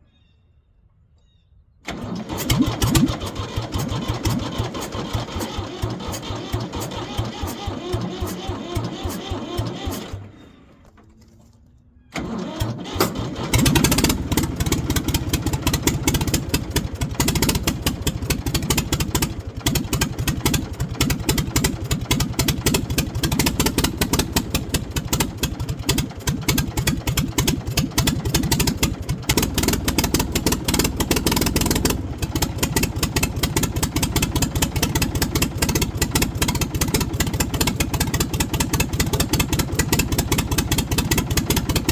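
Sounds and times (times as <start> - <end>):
diesel engine turning over and running: 1.8 - 11.1, 12.1 - 41.9.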